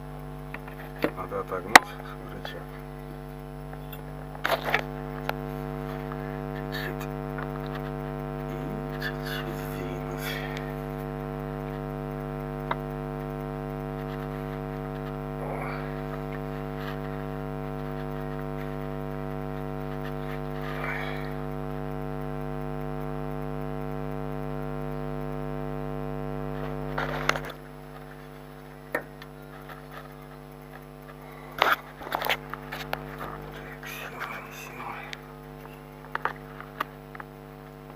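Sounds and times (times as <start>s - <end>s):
electrical mains hum: 0.0s - 37.9s.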